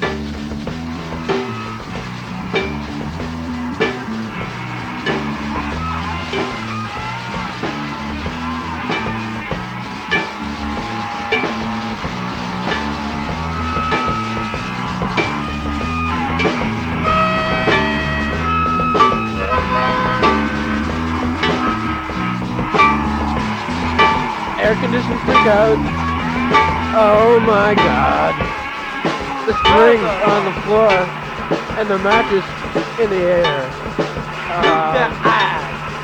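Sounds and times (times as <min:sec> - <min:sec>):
bass line: 0:00.0 - 0:36.0
drum kit beat: 0:00.0 - 0:36.0
electric guitar: 0:00.0 - 0:36.0.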